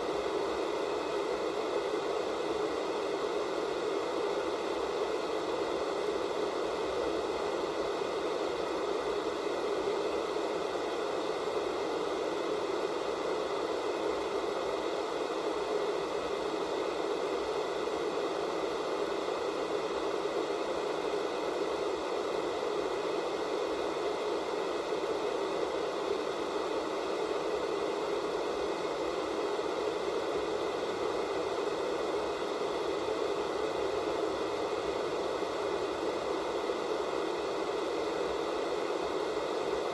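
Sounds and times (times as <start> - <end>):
faint steady whine: 0.0 - 39.9
television static hiss: 0.0 - 39.9.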